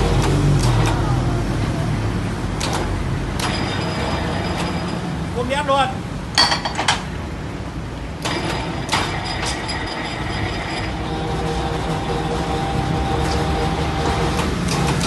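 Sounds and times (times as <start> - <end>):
bending machine motor humming: 0.0 - 5.3, 8.2 - 15.0.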